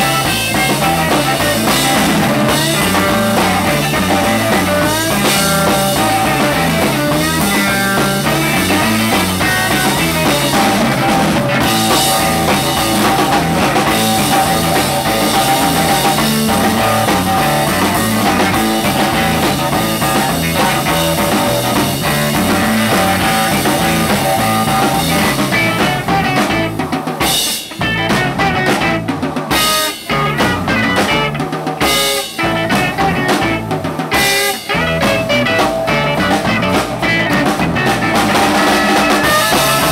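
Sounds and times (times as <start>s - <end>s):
band stop-time hits: 0.0s - 39.9s
drum kit: 0.0s - 39.9s
electric guitar playing lead: 0.0s - 39.9s.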